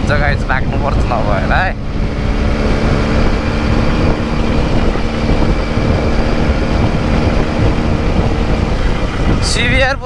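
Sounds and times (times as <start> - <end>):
motorcycle engine cruising: 0.0 - 10.0
wind rumble on microphone: 0.0 - 10.0.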